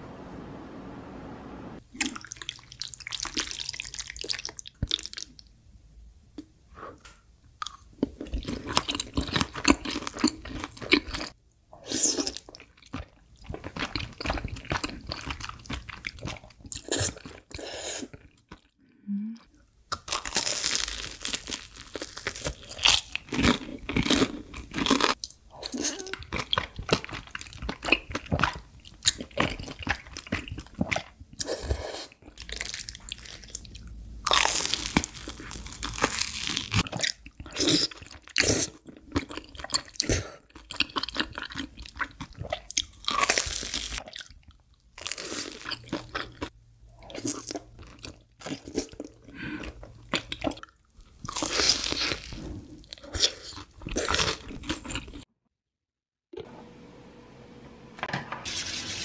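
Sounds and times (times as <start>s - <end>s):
crunching and chewing food: 2.0s - 5.4s, 7.6s - 18.8s, 19.9s - 55.3s.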